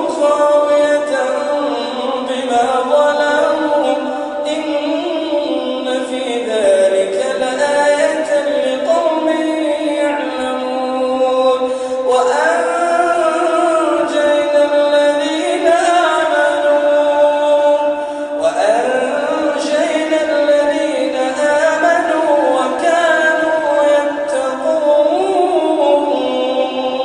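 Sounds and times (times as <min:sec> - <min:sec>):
man chanting melodically: 0:00.0 - 0:27.0.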